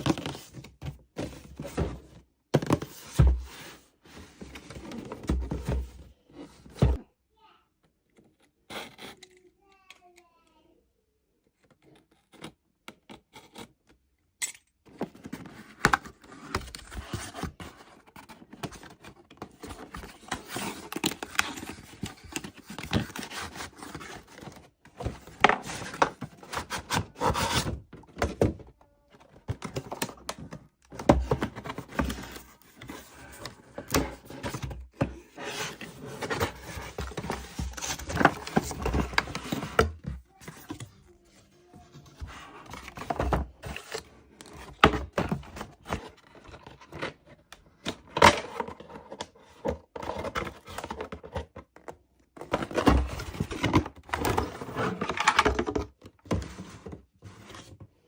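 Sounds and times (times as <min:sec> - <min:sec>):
toys and packaging handled: 0:00.0 - 0:07.1, 0:07.9 - 0:58.0.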